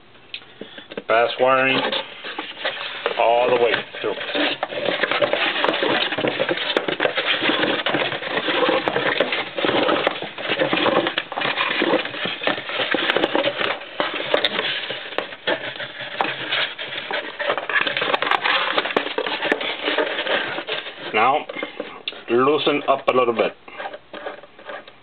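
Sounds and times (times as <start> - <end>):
cardboard rustling and scraping: 0.6 - 25.0.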